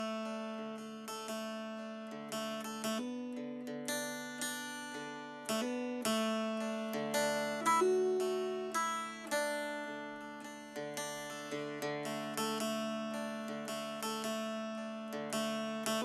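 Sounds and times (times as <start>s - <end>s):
acoustic guitar picking notes: 0.0s - 16.0s.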